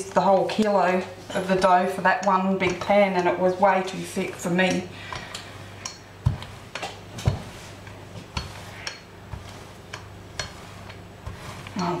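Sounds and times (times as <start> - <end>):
low steady hum: 0.0 - 12.0
rolling pin knocking on dough: 1.6 - 12.0.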